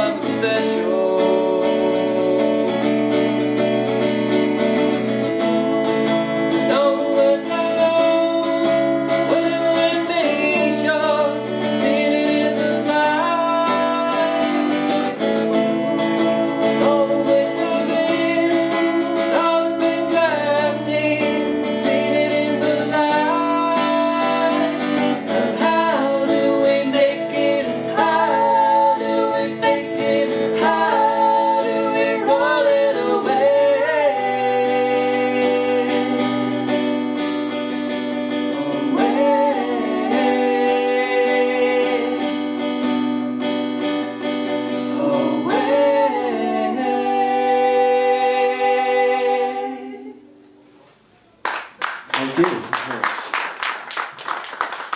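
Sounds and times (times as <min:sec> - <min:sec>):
men singing: 0:00.0 - 0:03.4, 0:05.4 - 0:36.9, 0:38.3 - 0:42.7, 0:44.6 - 0:50.2
strummed acoustic guitar: 0:00.0 - 0:50.5.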